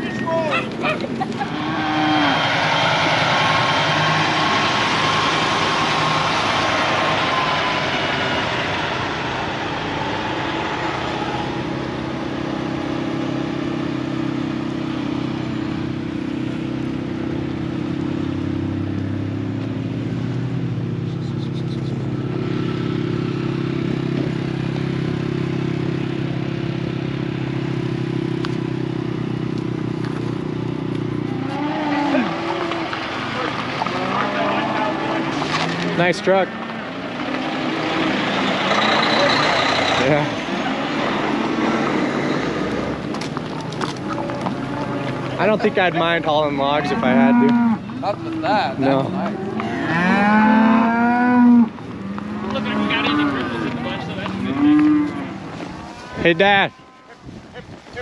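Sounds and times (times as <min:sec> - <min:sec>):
road noise: 0:00.0 - 0:58.0
vehicle engine running: 0:00.0 - 0:58.0.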